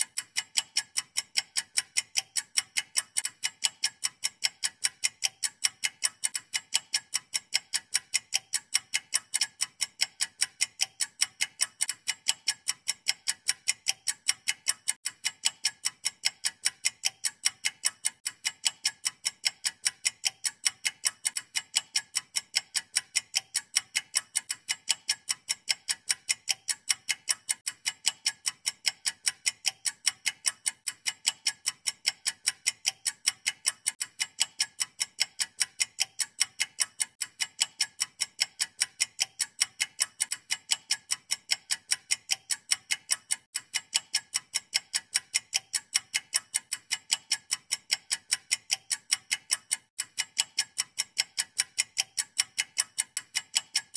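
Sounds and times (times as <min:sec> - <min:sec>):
sharp clock-like ticking: 0:00.0 - 0:53.9.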